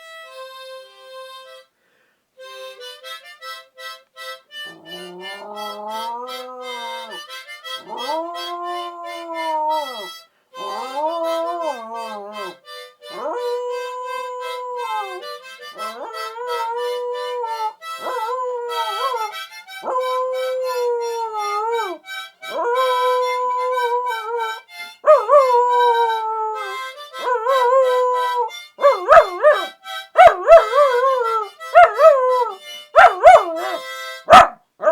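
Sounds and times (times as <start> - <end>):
harmonica playing: 0.0 - 1.8, 2.4 - 34.8
dog howling: 4.7 - 7.2, 7.8 - 34.9.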